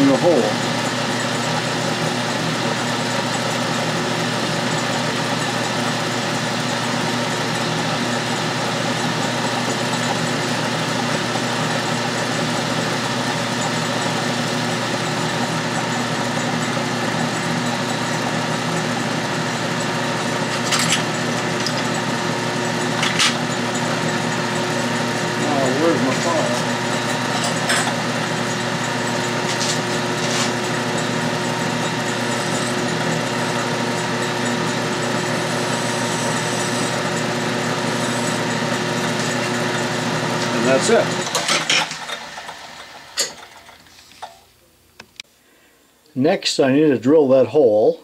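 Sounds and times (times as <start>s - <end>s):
metal lathe running: 0.0s - 44.4s.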